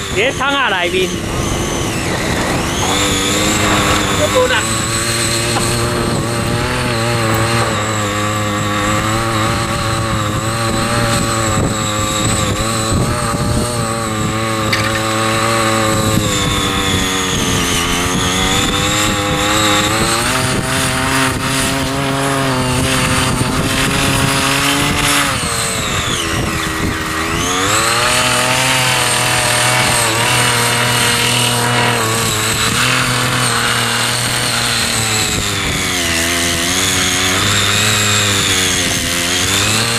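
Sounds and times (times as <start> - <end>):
small petrol engine under load: 0.0 - 39.9.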